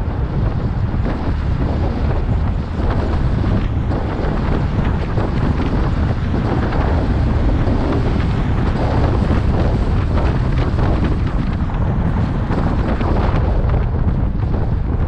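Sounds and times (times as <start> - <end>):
car road rumble: 0.0 - 15.0
wind buffeting microphone: 0.0 - 15.0.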